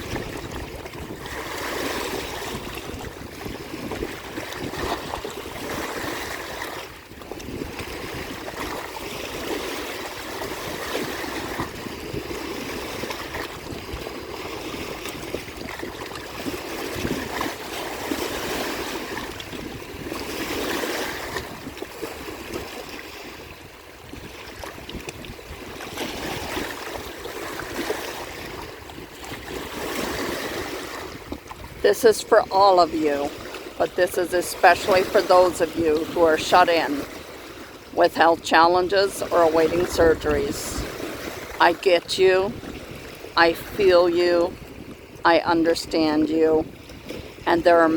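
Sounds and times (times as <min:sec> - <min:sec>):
waves washing onto shore: 0:00.0 - 0:47.9.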